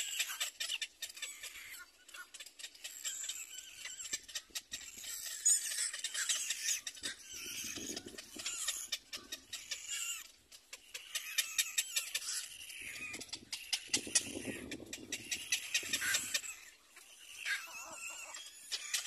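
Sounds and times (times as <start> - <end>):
chicks squealing and clicking: 0.0 - 19.0.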